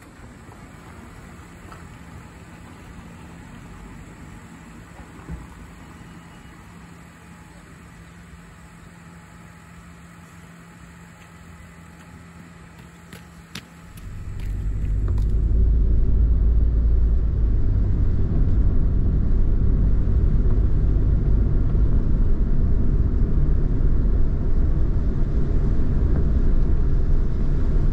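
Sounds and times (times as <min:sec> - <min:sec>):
van engine and road rumble: 0:00.0 - 0:27.9.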